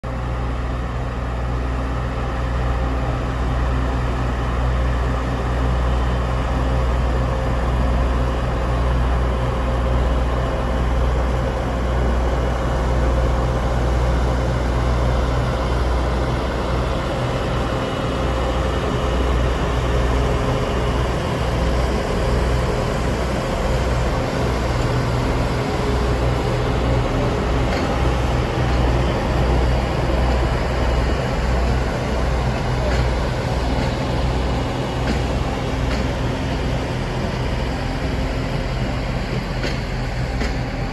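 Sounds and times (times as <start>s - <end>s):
diesel train engine rumbling: 0.0s - 40.9s.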